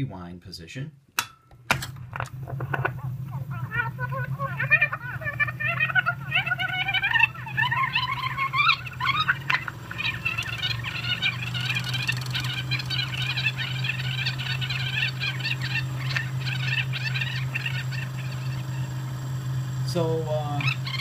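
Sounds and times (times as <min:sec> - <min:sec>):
steady low hum: 0:00.0 - 0:21.0
fast squeaky rewound voices: 0:02.5 - 0:21.0.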